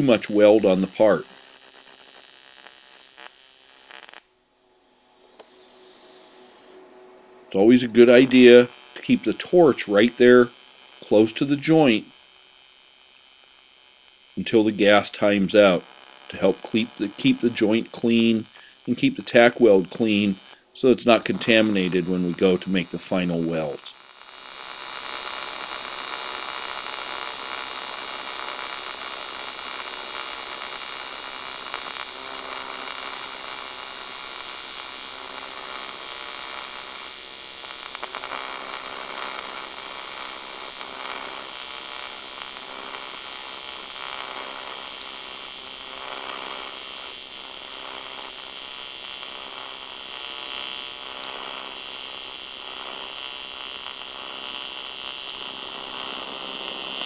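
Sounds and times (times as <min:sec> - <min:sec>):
welding arc buzzing hiss: 0:00.0 - 0:06.9, 0:07.5 - 0:57.0.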